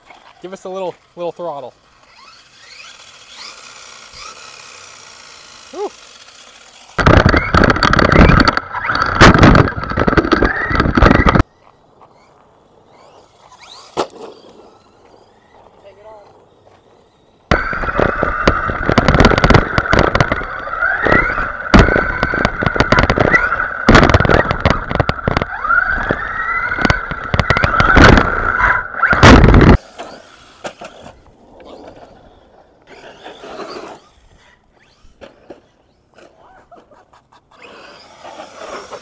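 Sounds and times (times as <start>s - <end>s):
toy truck clattering on dirt: 0.0s - 1.2s, 1.8s - 39.0s
electric motor whine: 1.8s - 36.0s.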